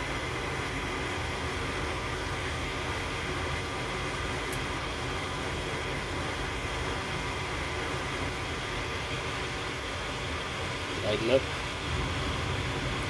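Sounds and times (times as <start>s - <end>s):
furnace fan whoosh: 0.0s - 13.0s
low hum: 0.0s - 13.0s.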